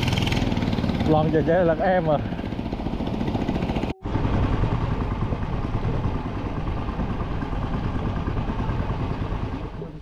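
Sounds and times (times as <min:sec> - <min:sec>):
engine running with pulsing rumble: 0:00.0 - 0:10.0.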